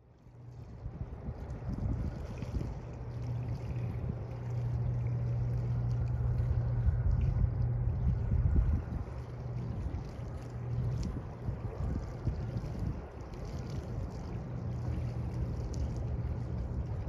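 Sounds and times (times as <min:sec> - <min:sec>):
ship engine drone: 0:00.0 - 0:17.0
wind rumbling on microphone: 0:00.0 - 0:17.0.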